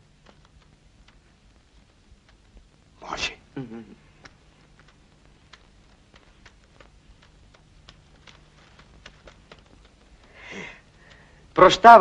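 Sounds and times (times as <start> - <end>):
low hum: 0.0 - 11.9
film clicks and crackles: 0.0 - 12.0.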